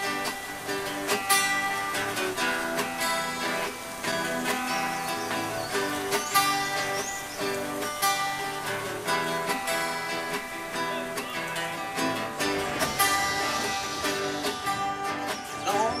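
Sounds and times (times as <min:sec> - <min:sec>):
acoustic guitars strumming chords: 0:00.0 - 0:16.0.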